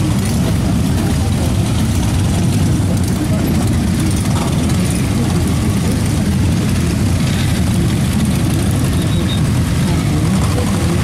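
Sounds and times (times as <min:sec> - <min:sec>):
motorcycles idling: 0:00.0 - 0:11.0.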